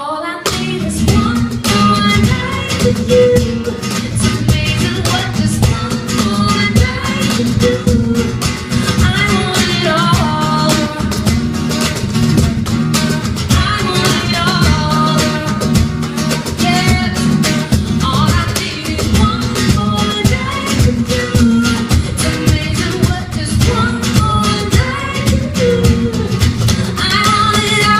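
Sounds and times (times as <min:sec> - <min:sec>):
person singing: 0:00.0 - 0:11.2, 0:12.5 - 0:27.9
acoustic guitar strumming: 0:00.4 - 0:27.9.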